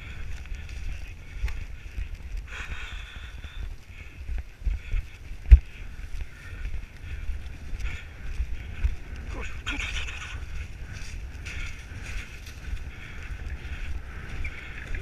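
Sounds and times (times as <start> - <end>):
hooves thudding: 0.0 - 15.0
wind buffeting microphone: 0.0 - 15.0.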